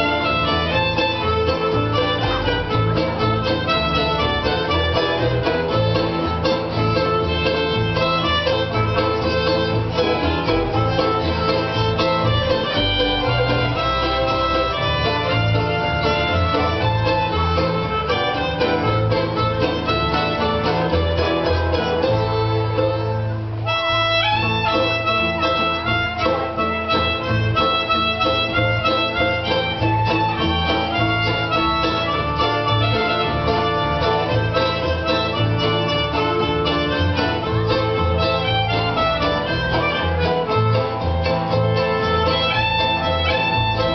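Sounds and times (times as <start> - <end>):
acoustic jazz band playing: 0.0 - 43.9
bass line: 0.0 - 43.9
plucked strings: 0.0 - 43.9.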